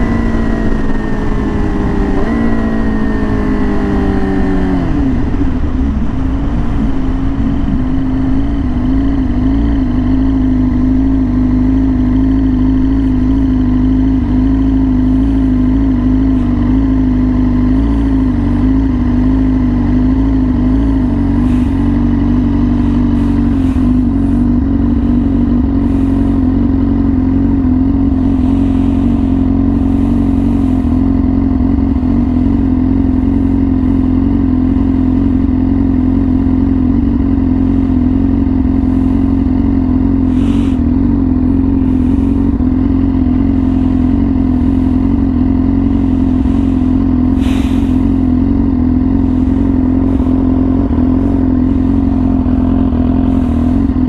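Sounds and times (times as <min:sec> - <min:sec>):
motorcycle engine at steady revs: 0:00.0 - 0:54.0.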